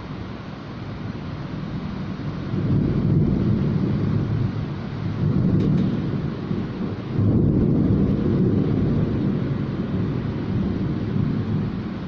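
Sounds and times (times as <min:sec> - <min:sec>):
heavy downpour rushing: 0:00.0 - 0:12.0.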